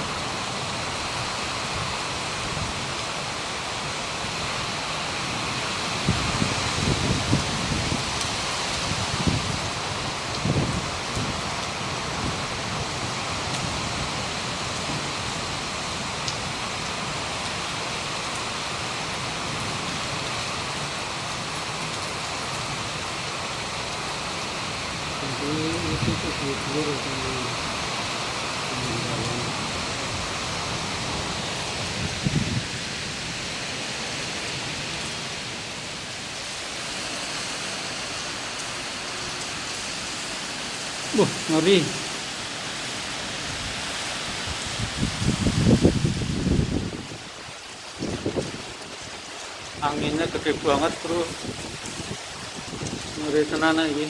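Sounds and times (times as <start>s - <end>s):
heavy rain in windstorm: 0.0s - 54.0s.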